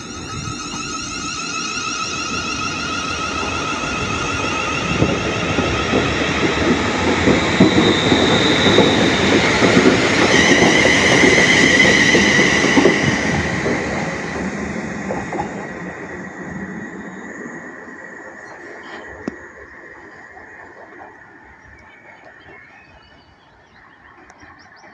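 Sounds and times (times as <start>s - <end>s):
train wheels clicking over rail joints: 0.0s - 21.2s
train high whine: 0.0s - 24.9s.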